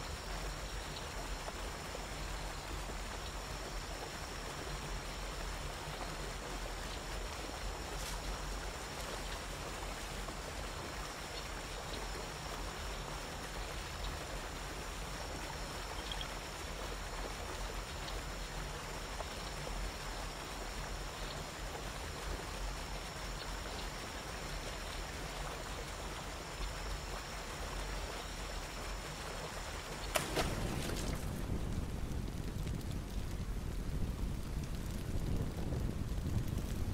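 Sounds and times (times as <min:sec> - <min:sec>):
waterfall rushing into pool: 0:01.1 - 0:33.0.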